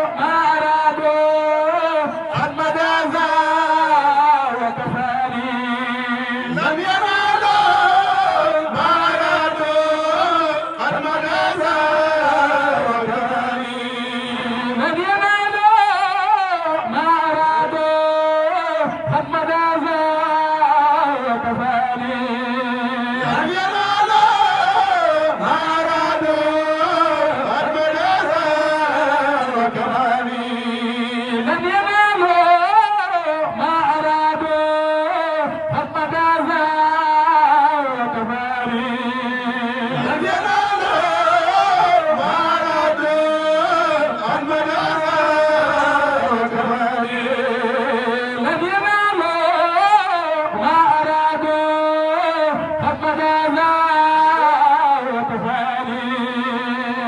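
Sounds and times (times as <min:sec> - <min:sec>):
men chanting: 0:00.0 - 0:57.0.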